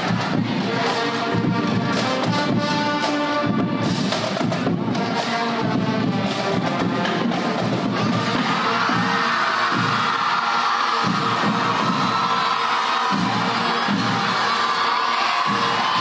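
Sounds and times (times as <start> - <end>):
upbeat music with drums: 0.0 - 16.0.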